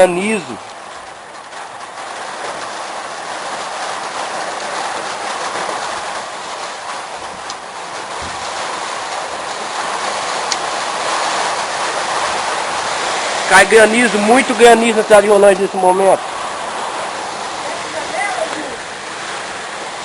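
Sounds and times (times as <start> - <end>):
hail and heavy rain: 0.0 - 20.0
hailstones tapping: 0.0 - 20.0.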